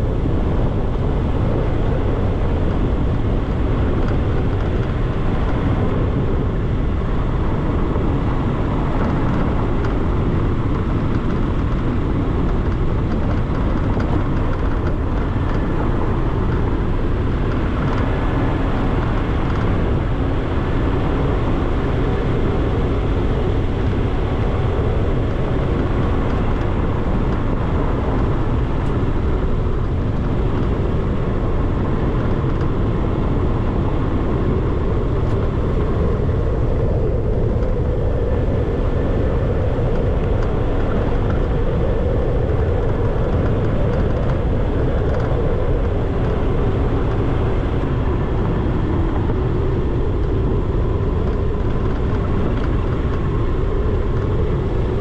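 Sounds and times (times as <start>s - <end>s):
car road noise: 0.0s - 55.0s
wind rush: 0.0s - 55.0s.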